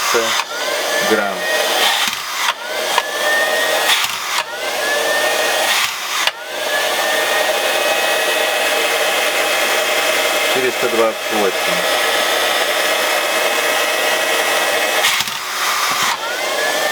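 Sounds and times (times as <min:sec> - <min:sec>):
robot vacuum fan whine: 0:00.0 - 0:16.9.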